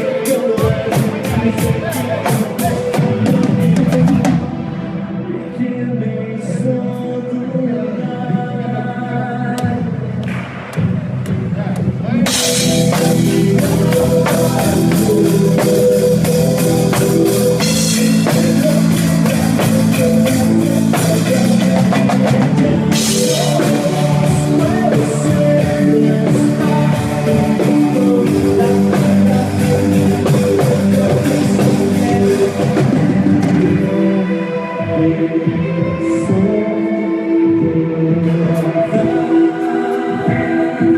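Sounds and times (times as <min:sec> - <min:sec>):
rock band playing: 0:00.0 - 0:08.0, 0:09.6 - 0:40.9.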